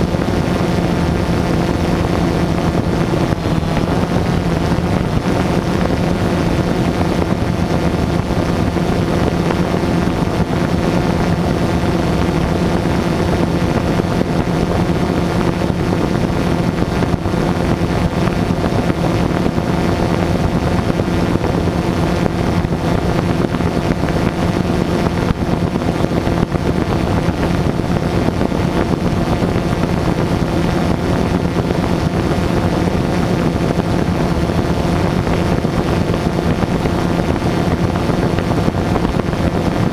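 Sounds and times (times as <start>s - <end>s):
drone motors whining at a hover: 0.0s - 39.9s.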